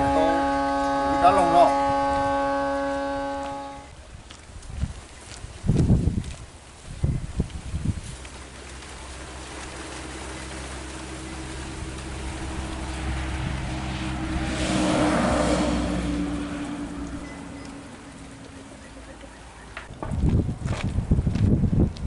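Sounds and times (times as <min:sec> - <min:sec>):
tyre and road noise: 0:00.0 - 0:22.0.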